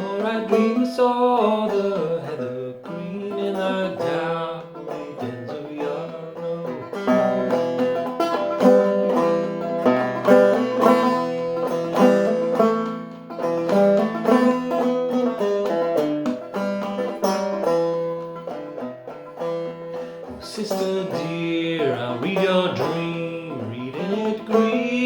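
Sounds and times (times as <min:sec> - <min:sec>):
banjo played clawhammer style: 0:00.0 - 0:25.0.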